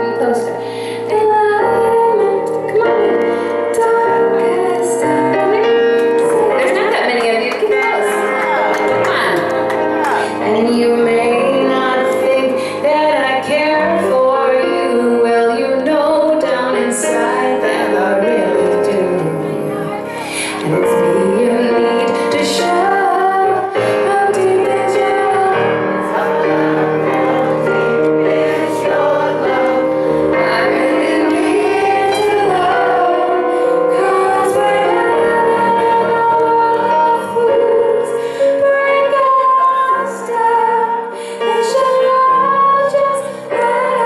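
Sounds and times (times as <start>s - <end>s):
woman singing into microphone: 0.0s - 8.3s, 10.2s - 44.0s.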